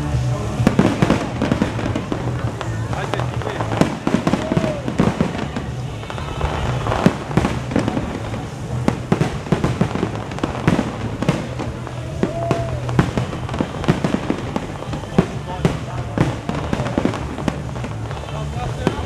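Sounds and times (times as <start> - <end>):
firework whistle: 0.0 - 19.0
fireworks bangs and crackles: 0.0 - 19.0.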